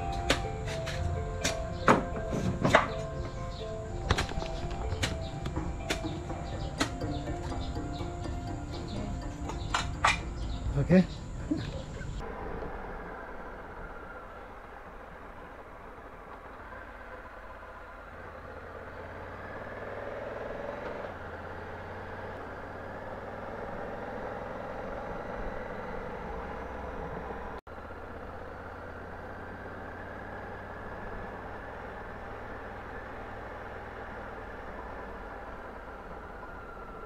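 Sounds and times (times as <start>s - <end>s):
motorcycle engine running: 0.0s - 36.3s
wind and road noise: 0.0s - 37.0s.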